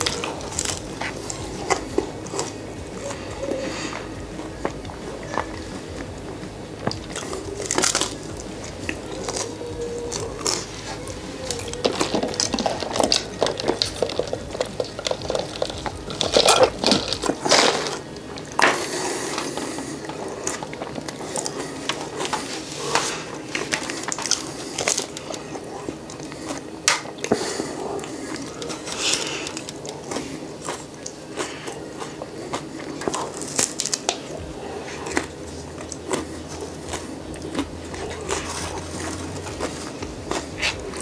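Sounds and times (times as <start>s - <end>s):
crunchy chewing of waffle cone: 0.0s - 41.0s.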